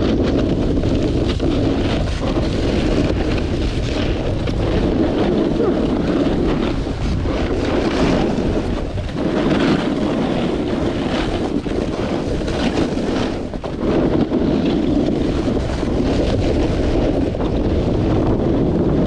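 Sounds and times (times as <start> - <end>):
snowboard scraping over snow: 0.0 - 19.0
wind buffeting microphone: 0.0 - 19.0.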